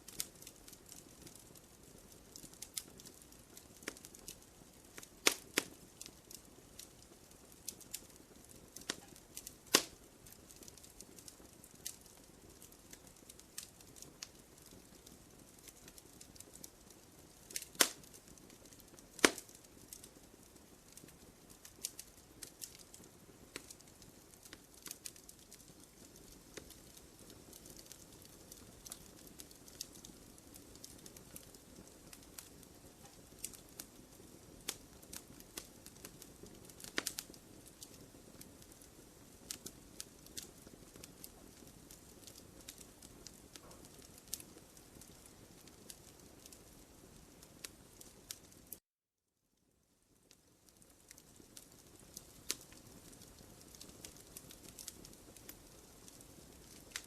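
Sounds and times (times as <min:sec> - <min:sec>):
wood fire crackling: 0:00.0 - 0:48.8, 0:49.7 - 0:57.0
loud fire pops: 0:00.1 - 0:48.8, 0:50.7 - 0:57.0.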